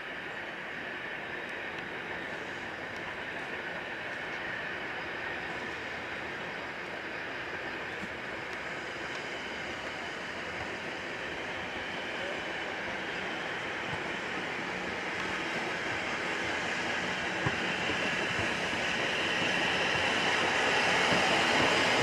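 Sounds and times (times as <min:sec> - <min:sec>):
train rolling on rails: 0:00.0 - 0:22.0.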